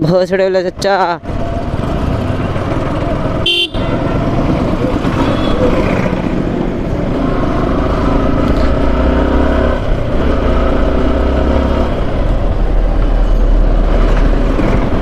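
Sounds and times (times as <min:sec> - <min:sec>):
motorcycle engine running: 0:00.9 - 0:15.0.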